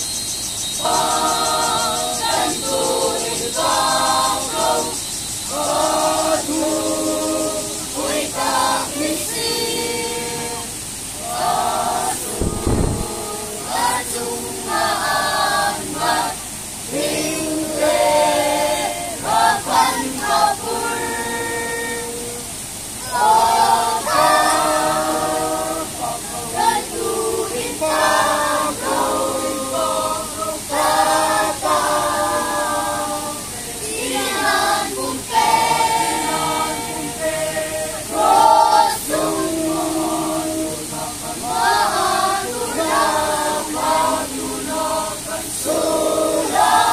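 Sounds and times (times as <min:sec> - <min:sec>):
choir singing unaccompanied: 0:00.0 - 0:46.9.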